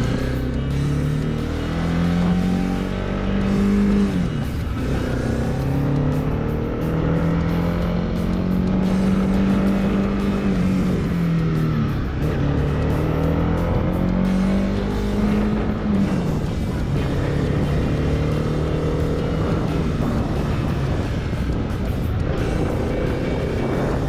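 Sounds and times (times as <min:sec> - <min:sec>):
motorcycle engine accelerating: 0:00.0 - 0:24.0
wind and road noise: 0:00.0 - 0:24.0.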